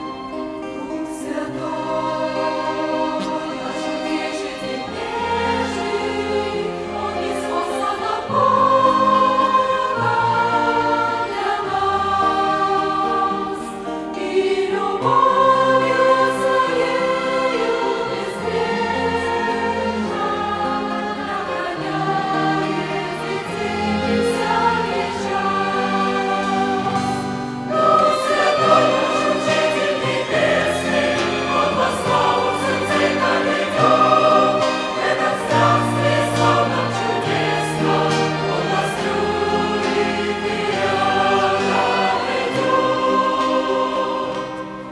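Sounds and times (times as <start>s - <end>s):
choir singing a hymn: 0.0s - 44.9s
violin ensemble: 0.0s - 44.9s.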